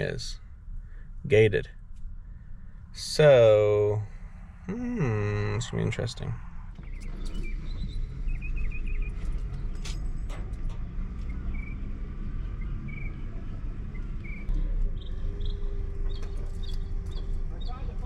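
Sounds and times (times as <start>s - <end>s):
birds chirping: 0.0s - 10.2s, 11.2s - 18.0s
truck engine rumbling: 0.0s - 18.0s.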